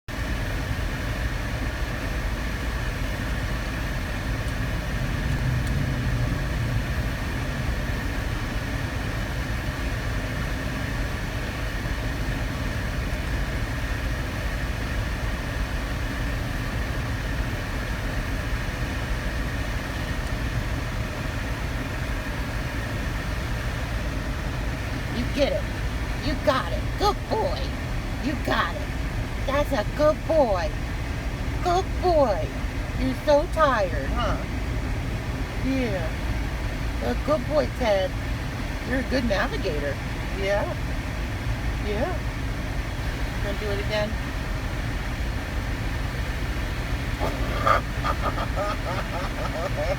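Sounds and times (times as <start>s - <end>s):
air conditioning blowing: 0.1s - 49.9s
car engine running: 0.1s - 49.9s
faint steady whine: 0.1s - 49.9s.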